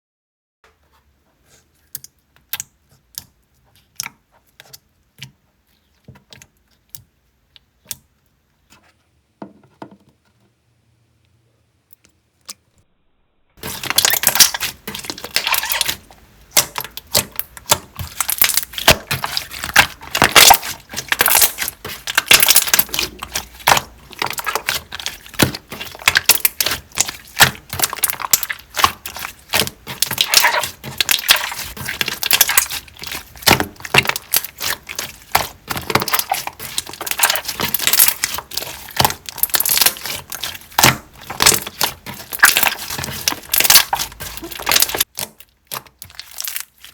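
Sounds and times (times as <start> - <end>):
hands squishing slime: 1.4 - 8.2, 13.6 - 46.9.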